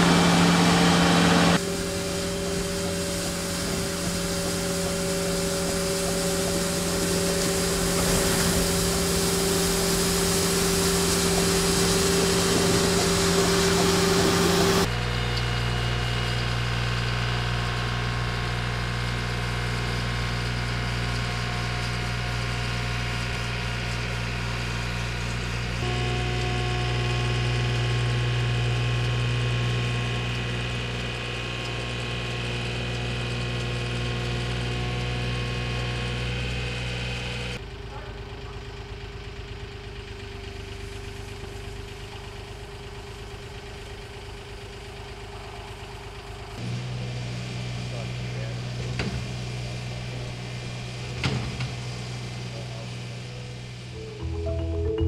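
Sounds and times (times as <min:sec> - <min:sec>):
loader engines running: 0:00.0 - 0:55.0.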